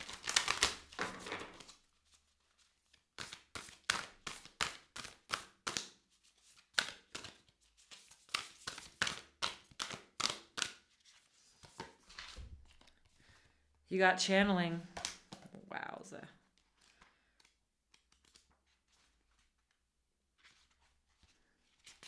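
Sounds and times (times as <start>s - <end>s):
cards being shuffled: 0.0s - 13.5s, 14.9s - 15.6s, 16.4s - 19.7s, 20.4s - 22.0s.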